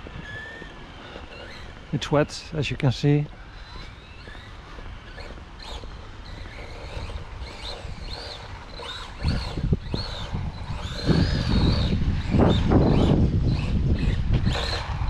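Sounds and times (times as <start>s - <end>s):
electric motor whining: 0.0s - 15.0s
wind rumble on microphone: 0.0s - 15.0s.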